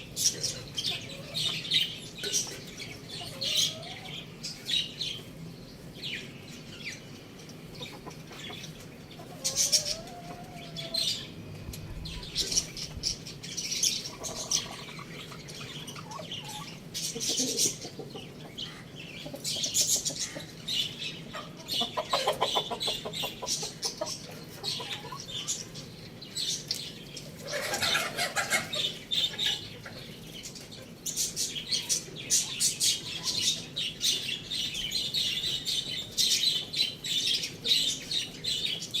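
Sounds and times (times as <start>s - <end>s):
budgies chirping and chattering: 0.0s - 39.0s
chicken clucking: 0.1s - 39.0s.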